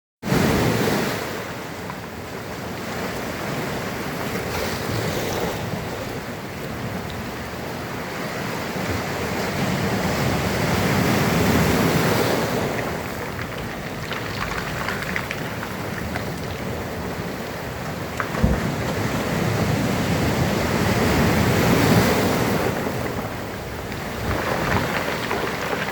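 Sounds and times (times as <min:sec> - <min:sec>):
waves breaking: 0:00.3 - 0:25.9
wind buffeting microphone: 0:04.0 - 0:25.9.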